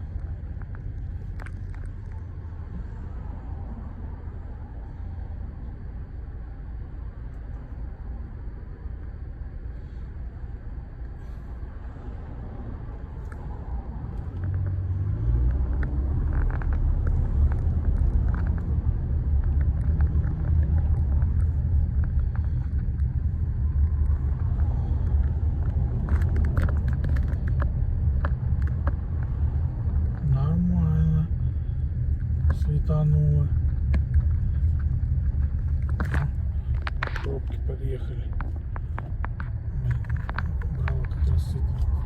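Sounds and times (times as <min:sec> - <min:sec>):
car engine: 0:00.0 - 0:42.0
road rumble: 0:00.0 - 0:42.0.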